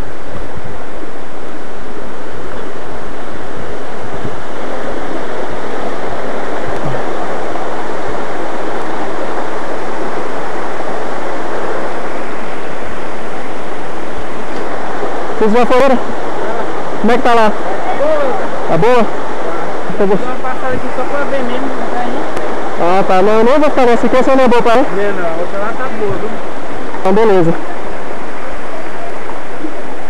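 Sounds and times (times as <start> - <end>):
stream cascading over rocks: 0.0 - 30.0
waterfall rushing: 0.0 - 30.0.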